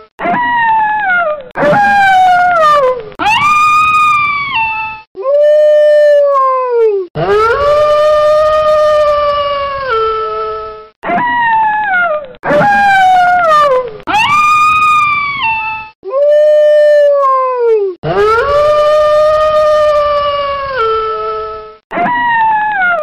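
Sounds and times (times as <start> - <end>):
wolf howling: 0.2 - 5.0, 7.2 - 15.9, 18.0 - 23.0.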